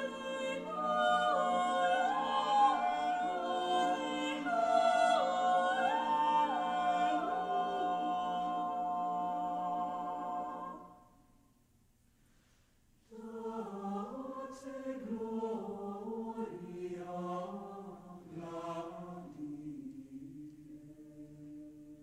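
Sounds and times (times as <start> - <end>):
mixed choir singing: 0.0 - 11.0, 13.1 - 22.0.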